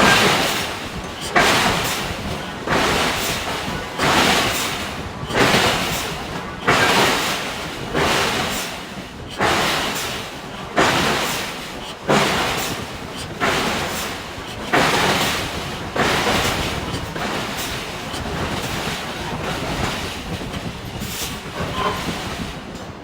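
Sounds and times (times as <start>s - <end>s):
hydraulic forging hammer striking steel: 0.0s - 22.5s.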